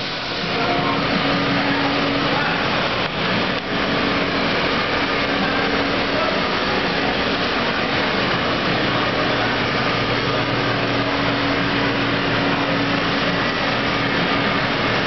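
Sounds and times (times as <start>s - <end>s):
steady machine noise: 0.0s - 15.0s.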